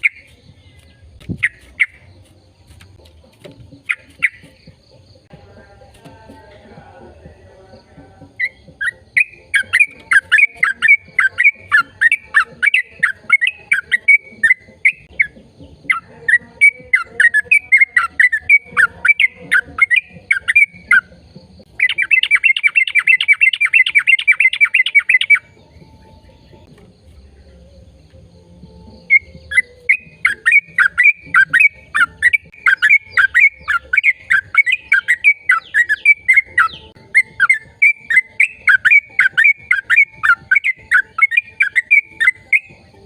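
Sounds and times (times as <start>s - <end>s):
bird chirping and trilling: 0.0s - 2.8s, 3.4s - 5.2s, 8.3s - 26.7s, 28.9s - 43.0s.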